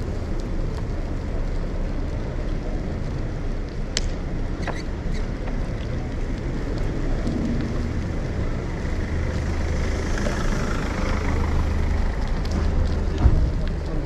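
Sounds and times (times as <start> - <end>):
bicycle tyres hissing on asphalt: 0.0 - 14.0.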